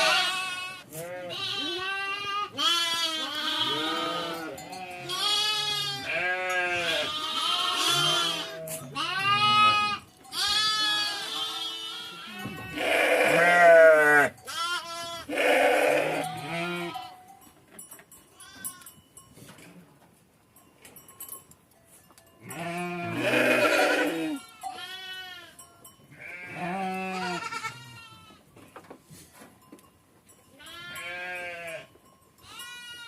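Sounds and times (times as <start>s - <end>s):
sheep and goats bleating: 0.0s - 17.3s, 18.3s - 19.0s, 22.4s - 28.5s, 30.5s - 33.0s.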